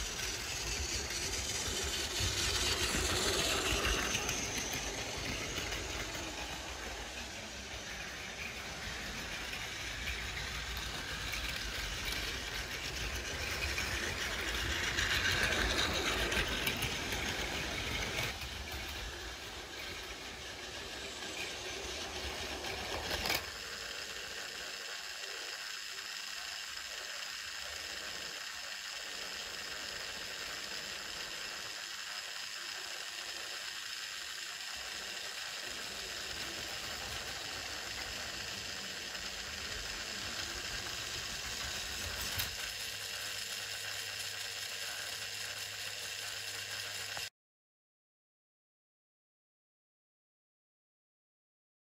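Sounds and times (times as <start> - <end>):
toy train motor whine: 0.0 - 47.3
toy train wheels rattling: 0.0 - 47.3.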